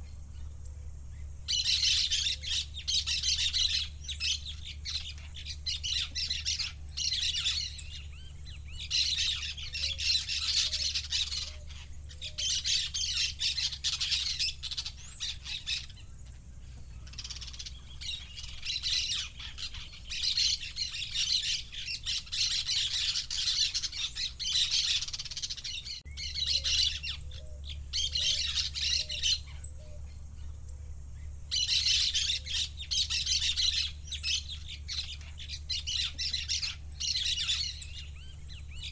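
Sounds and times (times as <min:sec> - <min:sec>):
birds chirping and squawking: 0:00.0 - 0:38.9
lower bird calls: 0:00.0 - 0:38.9
steady low hum: 0:00.0 - 0:38.9.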